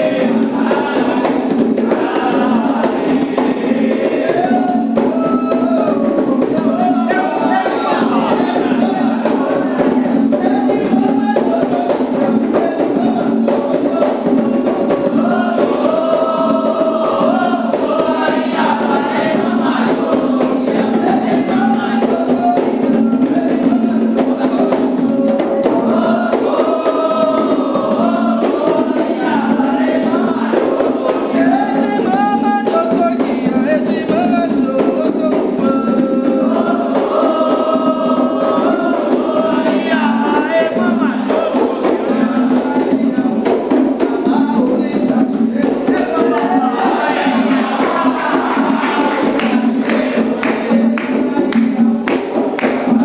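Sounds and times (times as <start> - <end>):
group singing in unison: 0.0 - 53.0
hand percussion: 0.0 - 53.0.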